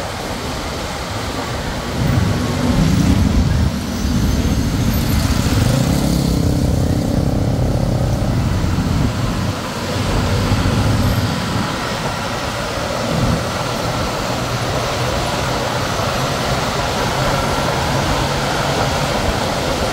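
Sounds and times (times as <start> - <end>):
motorbike engine and road rumble: 1.1 - 19.9.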